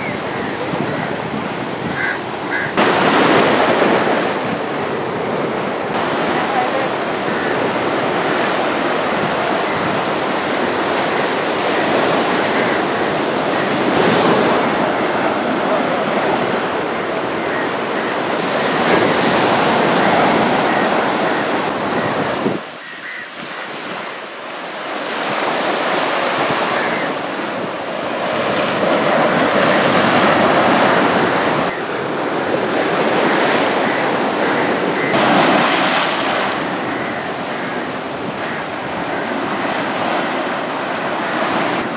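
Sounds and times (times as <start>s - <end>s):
sea waves breaking on shore: 0.0s - 41.9s.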